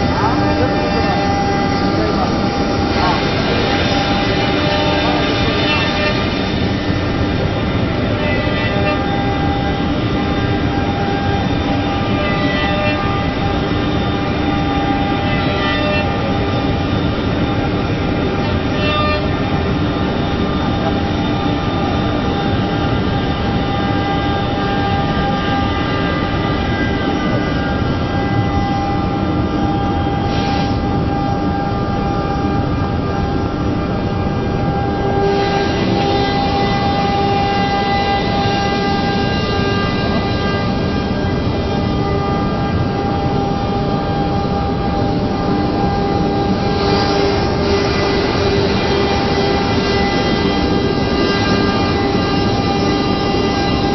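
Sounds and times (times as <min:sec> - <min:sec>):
machine cutting noise: 0:00.0 - 0:53.9
router spindle whine: 0:00.0 - 0:53.9.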